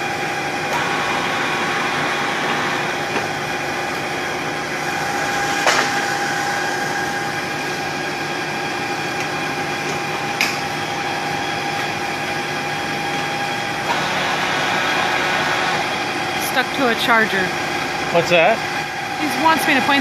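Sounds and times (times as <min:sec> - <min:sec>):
machine tool humming and whining: 0:00.0 - 0:20.0.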